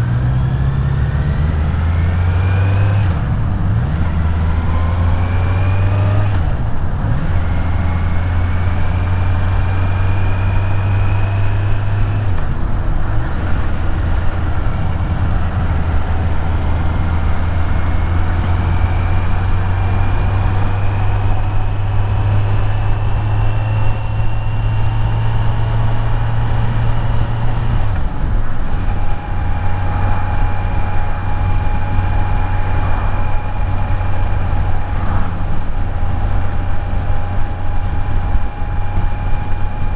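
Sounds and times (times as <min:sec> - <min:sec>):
motorcycle engine running: 0:02.4 - 0:39.9.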